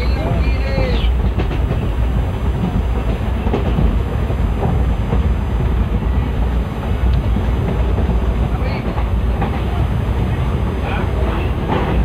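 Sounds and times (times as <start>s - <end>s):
train coach rumble: 0.0s - 12.0s.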